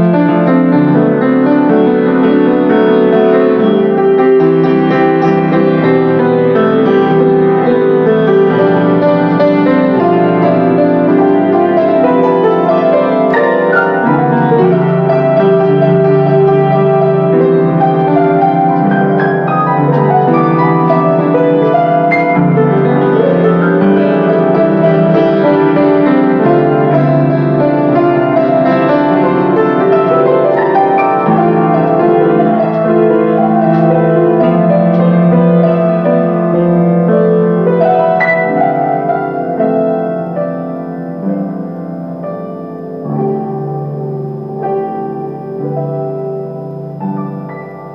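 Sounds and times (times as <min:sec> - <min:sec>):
solo grand piano piece: 0:00.0 - 0:47.9.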